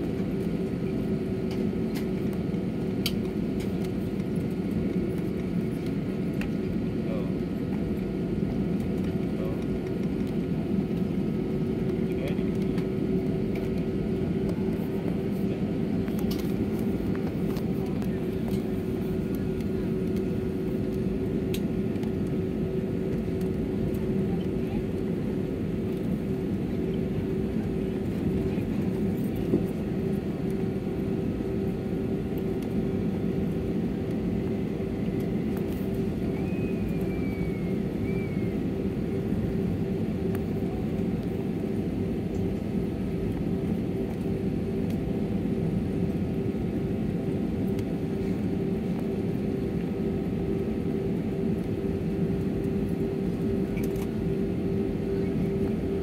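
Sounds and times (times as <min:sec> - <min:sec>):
jet engines rumbling inside cabin: 0:00.0 - 0:56.0.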